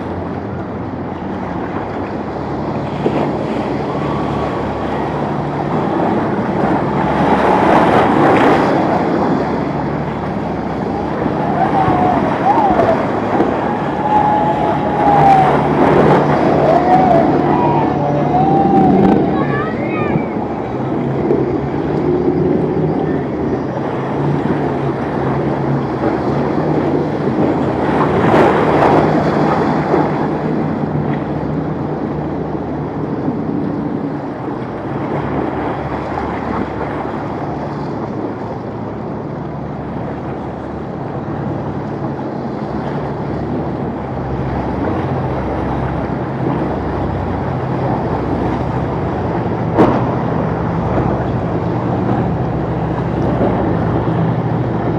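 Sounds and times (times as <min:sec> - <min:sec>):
boat engines running: 0:00.0 - 0:54.9
waves and rushing water: 0:00.0 - 0:54.9
wind buffeting microphone: 0:00.0 - 0:54.9.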